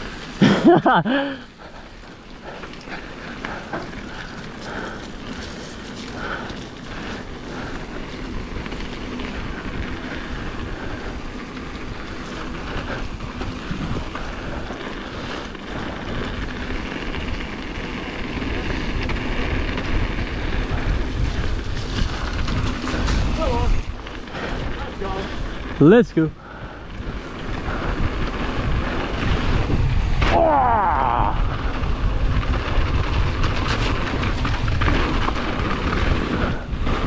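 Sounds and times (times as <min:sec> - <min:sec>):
tyres crunching over gravel: 0:00.0 - 0:30.3, 0:31.2 - 0:37.0
bike rattling: 0:00.0 - 0:37.0
wind buffeting microphone: 0:00.0 - 0:37.0.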